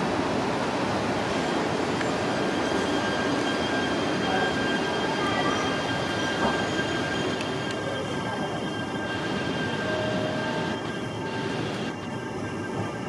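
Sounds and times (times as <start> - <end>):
train running at low speed: 0.0 - 13.0
thin steady whine: 1.6 - 13.0.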